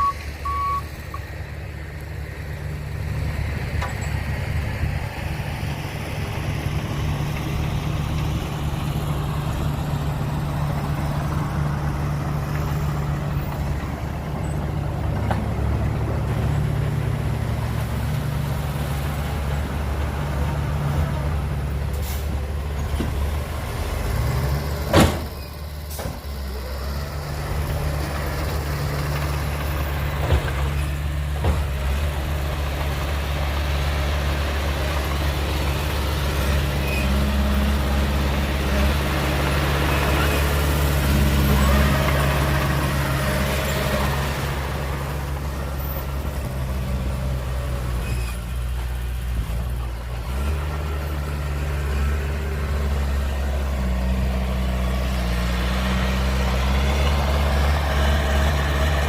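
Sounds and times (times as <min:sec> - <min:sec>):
heavy diesel machinery droning: 0:00.0 - 0:59.0.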